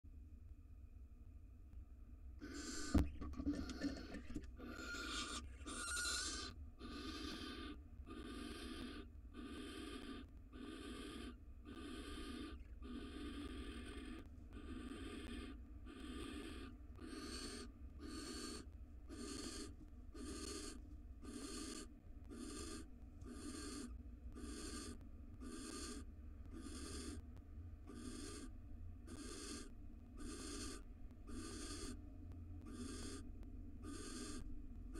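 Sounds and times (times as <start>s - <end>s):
owl rasping hiss calls: 2.4s - 27.2s, 27.9s - 28.5s, 29.1s - 32.0s, 32.7s - 34.5s.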